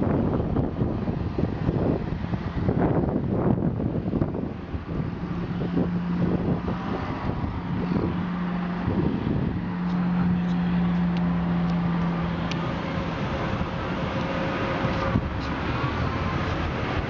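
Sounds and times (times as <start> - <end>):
vehicle road noise rumble: 0.0 - 17.0.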